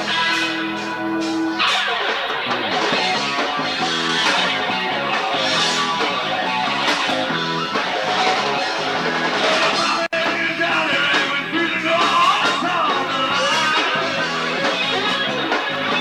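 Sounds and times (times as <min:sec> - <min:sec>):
electric guitar: 0:00.0 - 0:16.0
rock band playing: 0:00.0 - 0:16.0.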